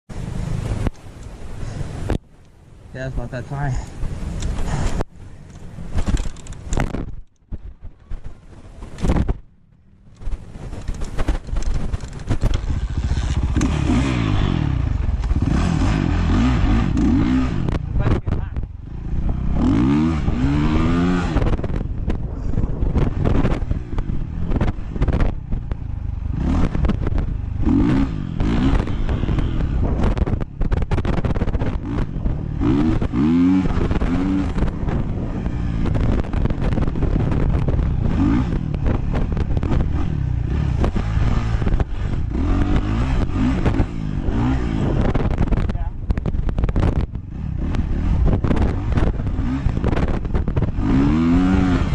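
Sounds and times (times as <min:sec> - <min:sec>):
dirt bike engine revving: 0:10.3 - 0:51.9.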